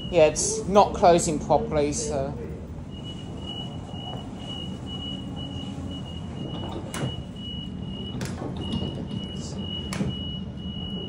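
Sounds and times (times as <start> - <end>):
train door warning beeping: 0.0 - 1.3, 2.6 - 11.0
train low hum: 0.0 - 11.0.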